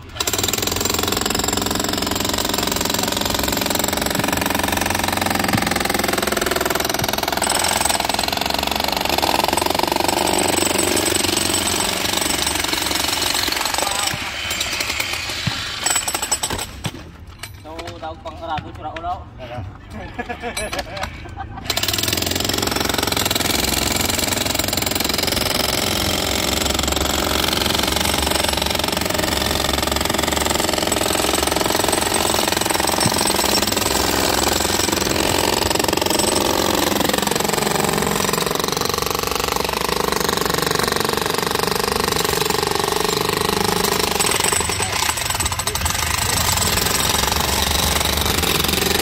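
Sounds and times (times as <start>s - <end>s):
jackhammers hammering concrete: 0.0s - 17.0s, 21.6s - 49.0s.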